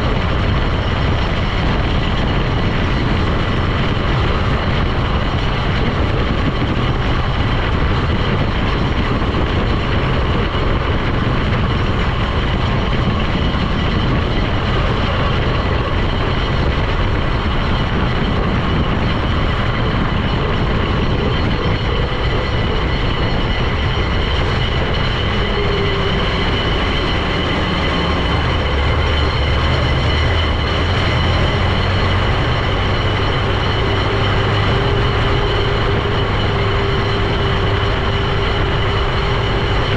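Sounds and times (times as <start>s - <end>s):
steady high whine: 0.0s - 39.9s
vehicle engine and road noise: 0.0s - 39.9s.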